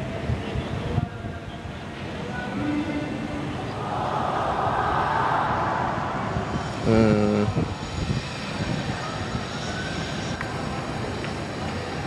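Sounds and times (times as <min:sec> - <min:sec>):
outdoor rushing noise: 0:01.8 - 0:12.0.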